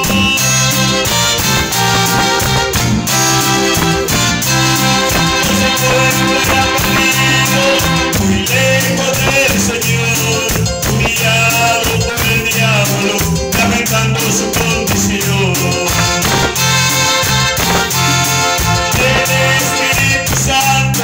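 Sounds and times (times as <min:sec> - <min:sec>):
electronic keyboard music: 0:00.0 - 0:21.0.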